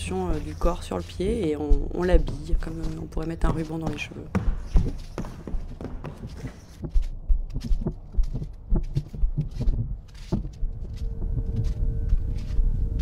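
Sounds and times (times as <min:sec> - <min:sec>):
low thumps and knocks: 0:00.0 - 0:13.0.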